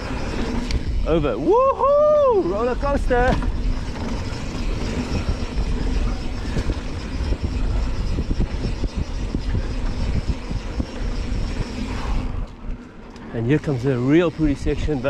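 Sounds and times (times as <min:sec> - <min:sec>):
bike tyres on dirt: 0:00.0 - 0:15.0
wind rushing over microphone: 0:00.0 - 0:15.0
bike knocking and rattling: 0:02.4 - 0:15.0.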